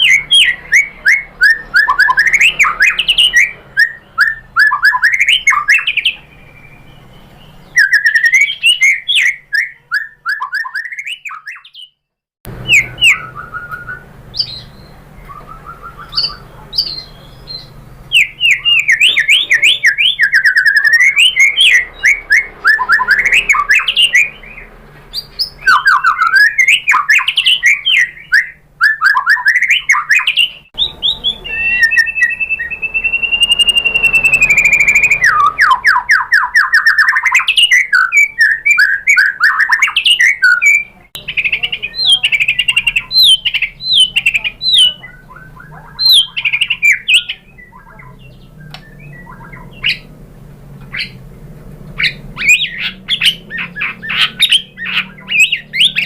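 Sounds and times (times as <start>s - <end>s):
bird singing whistled song: 0.0s - 12.0s, 12.6s - 50.1s, 50.9s - 51.2s, 52.0s - 56.0s.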